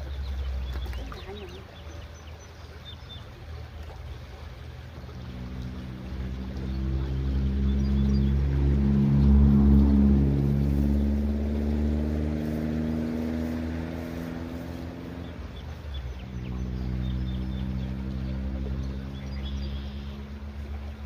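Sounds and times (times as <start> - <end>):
engine droning: 0.0 - 21.0.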